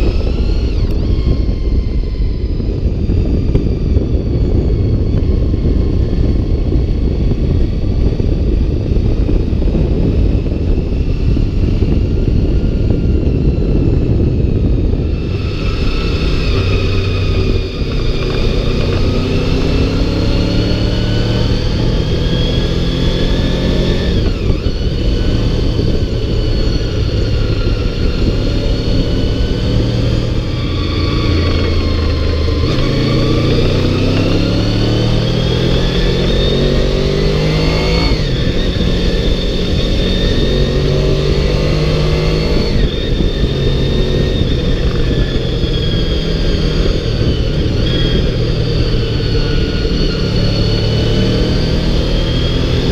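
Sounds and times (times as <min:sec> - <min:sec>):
motorcycle engine accelerating: 0:00.0 - 0:52.9
wind noise on microphone: 0:00.0 - 0:52.9.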